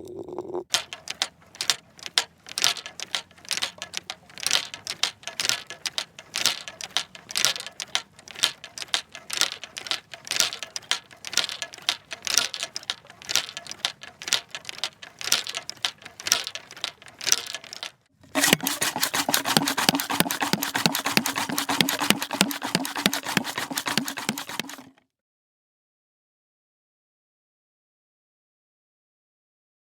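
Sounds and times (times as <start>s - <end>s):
golf clubs clinking in a bag: 0.7s - 24.9s
ball washer scrubbing: 0.7s - 25.0s.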